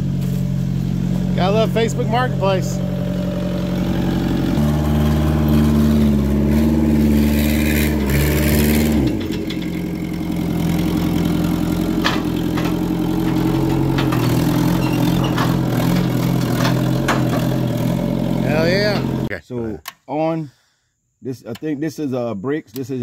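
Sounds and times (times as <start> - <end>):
diesel engine running under load: 0.0 - 19.3.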